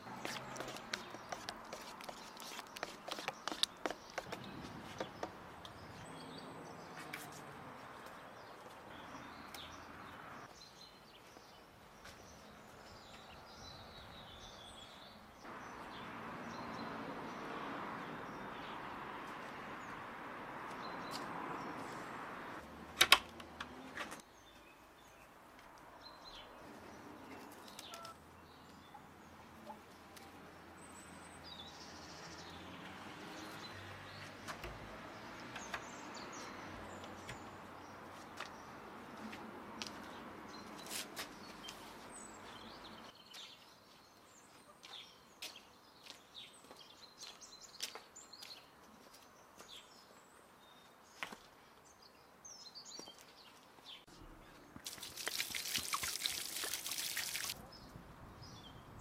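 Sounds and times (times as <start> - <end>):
small birds chirping: 0.0 - 17.4, 26.0 - 38.8, 39.9 - 59.0.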